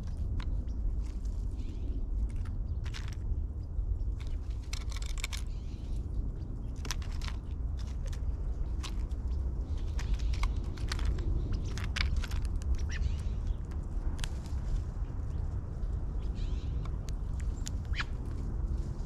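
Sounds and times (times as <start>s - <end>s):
bird pecking and crunching seeds: 0.0s - 19.0s
steady low rumble: 0.0s - 19.0s.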